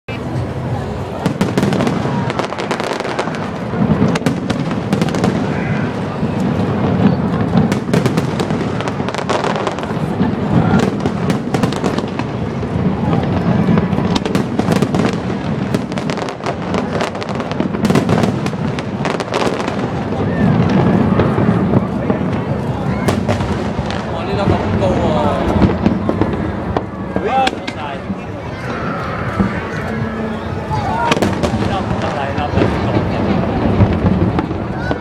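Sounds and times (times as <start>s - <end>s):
fireworks bangs and crackles: 0.1s - 35.0s.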